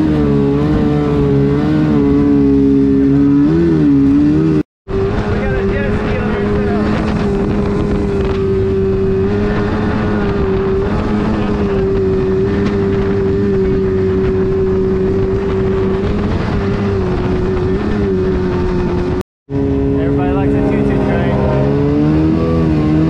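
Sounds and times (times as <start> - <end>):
jet ski engine droning: 0.0 - 23.0
wind noise: 4.3 - 23.0.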